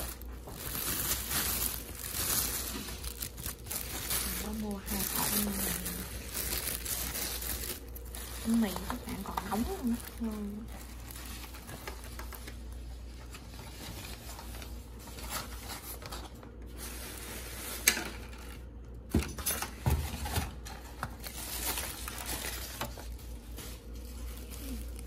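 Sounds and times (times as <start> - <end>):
plastic containers crinkling: 0.0 - 18.8, 19.6 - 25.0.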